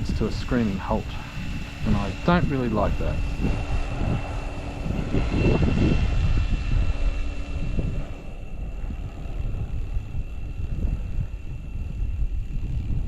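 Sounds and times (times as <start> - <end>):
rc helicopter motor whine: 0.0 - 13.0
wind buffeting microphone: 0.0 - 13.0.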